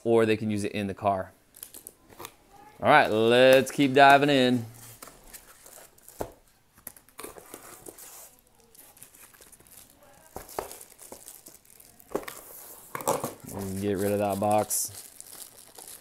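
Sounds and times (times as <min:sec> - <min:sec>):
plastic wrap crinkling: 0:01.5 - 0:16.0
cardboard packaging rustling: 0:01.6 - 0:16.0.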